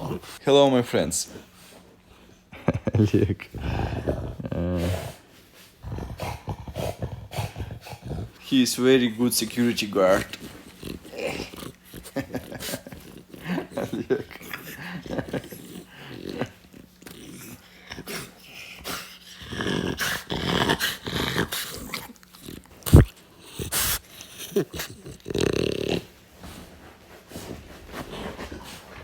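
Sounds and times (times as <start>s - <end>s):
dog growling: 0.0s - 0.4s, 1.3s - 29.0s.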